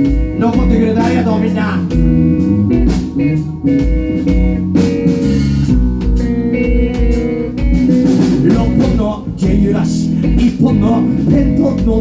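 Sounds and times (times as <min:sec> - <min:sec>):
bass: 0:00.0 - 0:12.0
drum kit beat: 0:00.0 - 0:12.0
electric guitars: 0:00.0 - 0:12.0.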